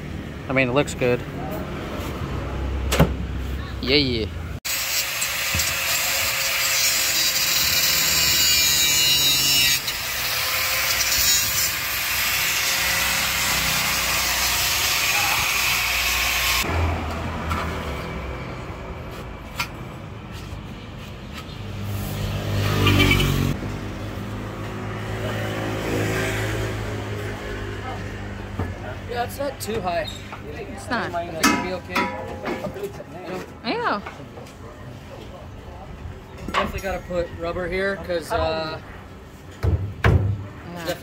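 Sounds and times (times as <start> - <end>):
traffic rumble: 0.0 - 4.6, 9.8 - 41.0.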